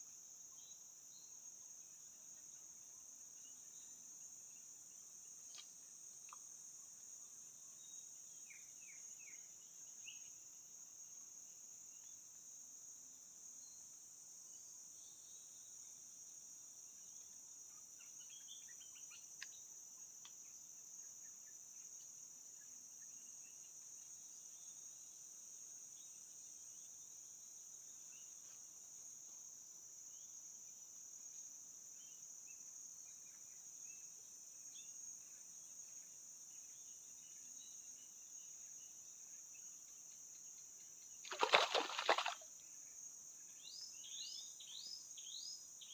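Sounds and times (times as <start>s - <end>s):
insect chirps and clicks: 0.0s - 45.9s.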